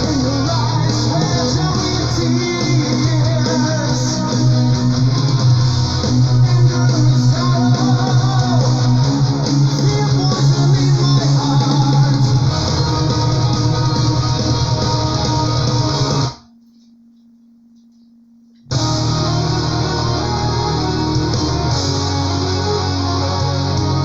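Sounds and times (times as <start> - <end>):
bass line: 0.0 - 16.4, 18.7 - 24.0
electric guitars: 0.0 - 16.4, 18.7 - 24.0
melodic metal music: 0.0 - 16.4, 18.7 - 24.0.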